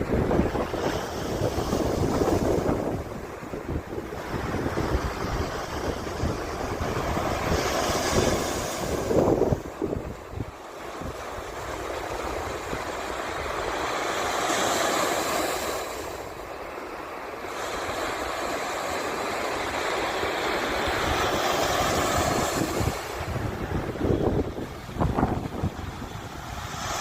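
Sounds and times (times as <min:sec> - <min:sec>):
waves breaking on shore: 0:00.0 - 0:27.0
wind rumbling on microphone: 0:00.0 - 0:27.0.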